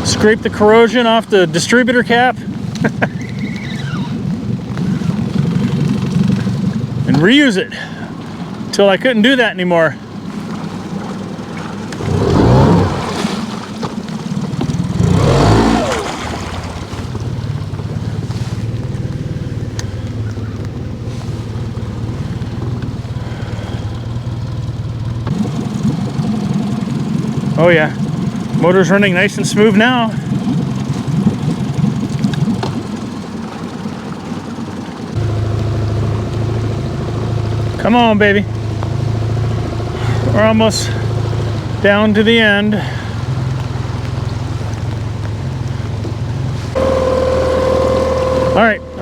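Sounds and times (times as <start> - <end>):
outboard motor revving: 0.0 - 49.0.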